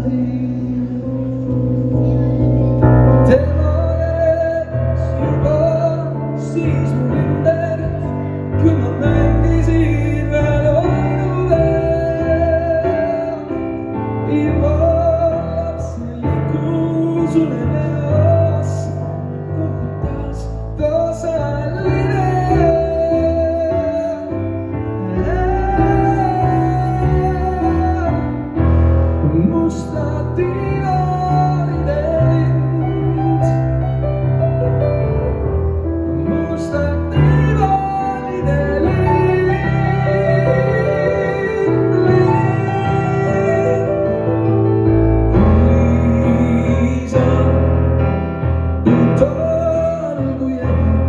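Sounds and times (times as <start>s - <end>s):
man singing with vibrato: 0.0s - 1.8s, 3.1s - 34.3s, 36.1s - 51.0s
grand piano: 0.0s - 51.0s.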